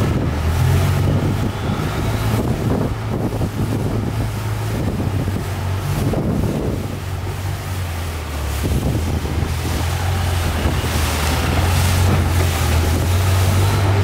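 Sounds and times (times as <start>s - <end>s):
motorboat engine drone: 0.0s - 14.0s
water rushing: 0.0s - 14.0s
wind buffeting microphone: 0.0s - 14.0s.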